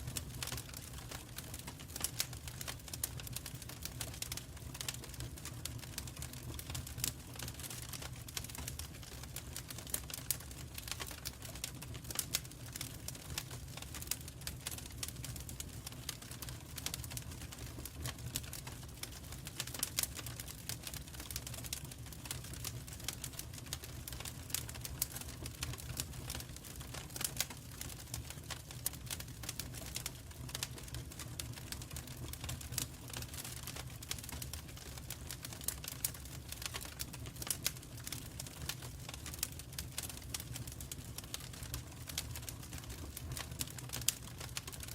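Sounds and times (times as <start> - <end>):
low rumble of burning fire: 0.0 - 44.9
wood fire crackling: 0.0 - 44.9.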